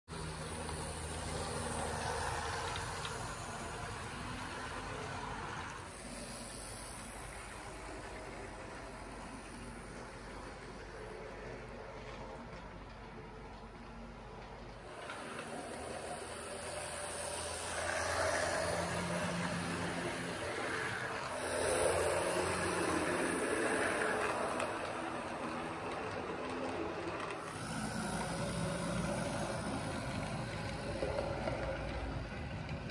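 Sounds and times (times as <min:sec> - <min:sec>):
model train motor whirring: 0:00.1 - 0:32.9
wheels rolling on track: 0:00.1 - 0:32.9.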